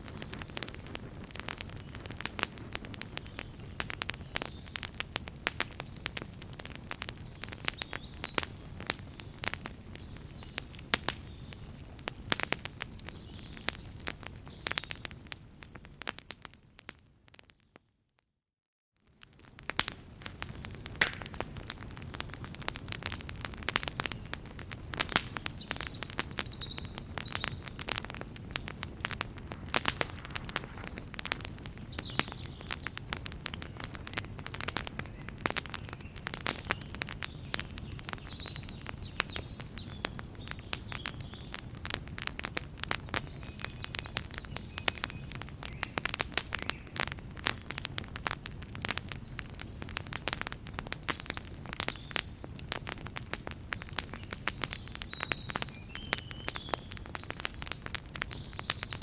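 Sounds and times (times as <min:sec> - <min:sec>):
low rumble of flames: 0:00.0 - 0:16.9, 0:19.1 - 0:59.0
campfire snaps and pops: 0:00.0 - 0:17.6, 0:19.1 - 0:59.0.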